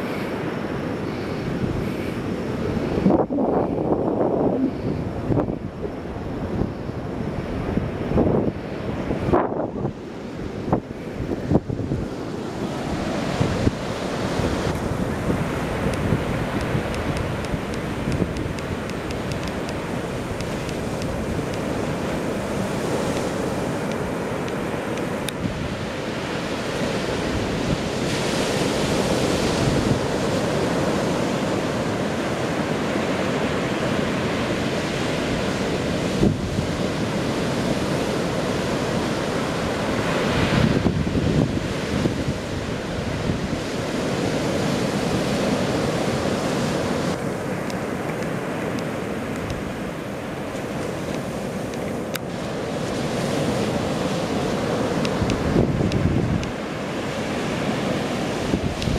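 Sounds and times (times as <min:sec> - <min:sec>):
ocean waves on beach: 0:00.0 - 0:58.9.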